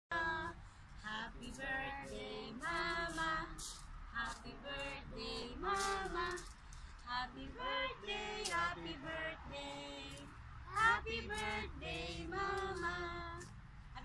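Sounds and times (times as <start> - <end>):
low steady rumble: 0.1 - 14.0
woman and boy singing: 0.1 - 14.0.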